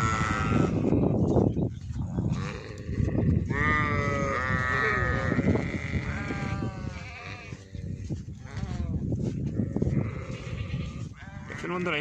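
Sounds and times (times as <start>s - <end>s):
goats bleating: 0.0s - 1.0s, 2.3s - 7.6s, 8.4s - 12.0s.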